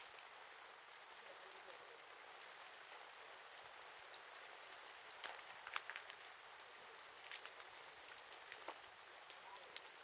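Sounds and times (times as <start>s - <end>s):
campfire crackling and popping: 0.0s - 10.0s
campfire hiss: 0.0s - 10.0s.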